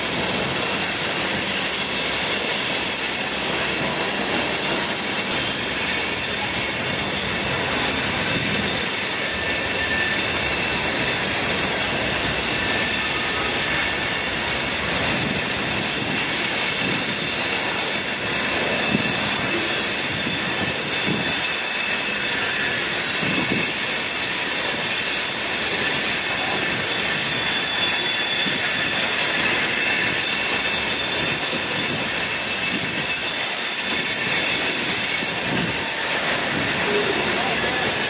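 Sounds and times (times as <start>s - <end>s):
high wheel squeal: 0.0s - 38.0s
train wheels clattering on rail: 0.0s - 38.0s.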